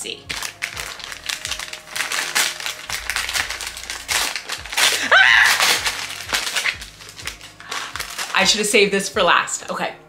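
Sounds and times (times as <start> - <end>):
wrapping paper tearing and crumpling: 0.3 - 8.7.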